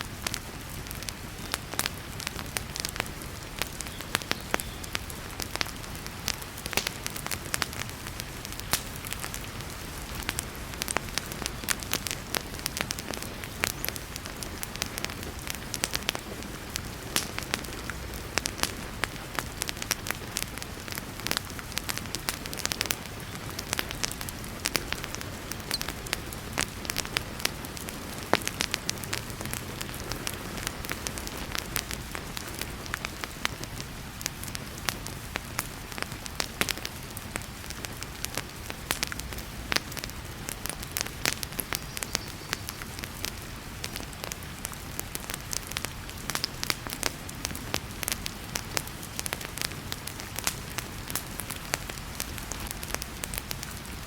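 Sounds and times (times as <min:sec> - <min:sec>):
heavy rain: 0:00.0 - 0:54.0
wood fire crackling: 0:00.0 - 0:54.0.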